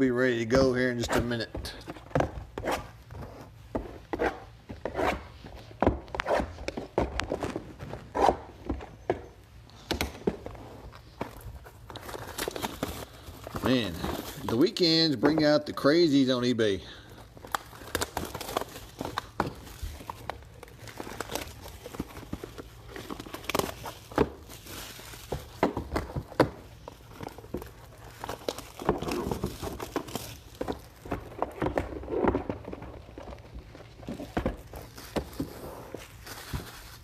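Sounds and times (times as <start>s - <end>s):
plastic wrap crinkling: 6.1s - 37.0s.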